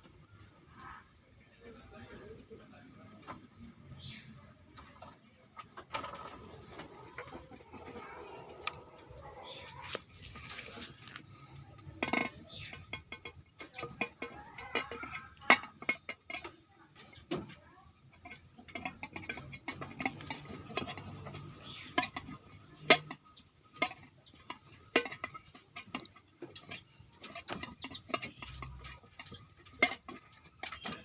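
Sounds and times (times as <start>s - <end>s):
small hard objects clicking: 4.8s - 31.0s.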